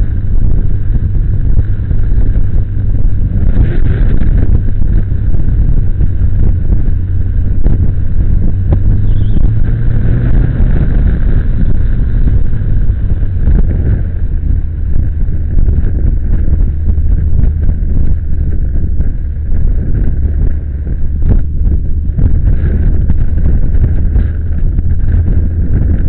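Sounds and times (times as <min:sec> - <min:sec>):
motorcycle engine: 0:00.0 - 0:26.0
wind rumble on microphone: 0:00.0 - 0:26.0.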